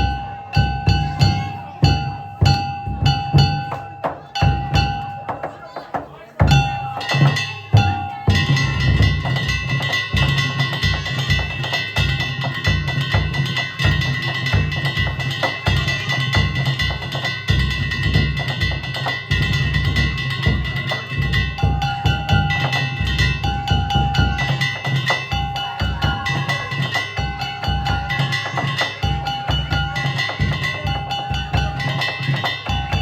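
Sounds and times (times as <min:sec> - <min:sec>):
big drum beating fast: 0:00.0 - 0:33.0
metal hand gongs ringing: 0:06.5 - 0:33.0.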